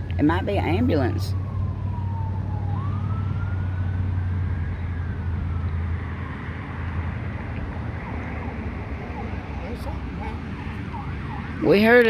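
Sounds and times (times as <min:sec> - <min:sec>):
faint siren wailing: 0:00.0 - 0:12.0.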